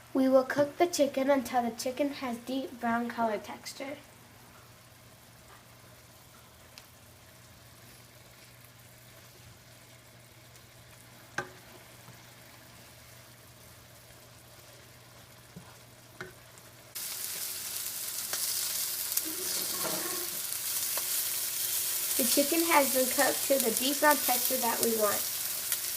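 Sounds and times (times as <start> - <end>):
chicken sizzling in a pan: 3.6 - 25.9.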